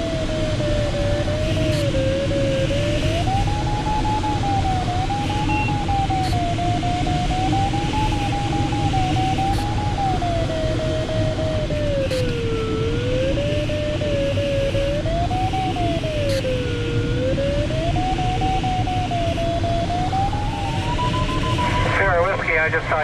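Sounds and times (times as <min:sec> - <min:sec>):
airflow rush in cockpit: 0:00.0 - 0:23.0
variometer tone rising and falling: 0:00.0 - 0:23.0.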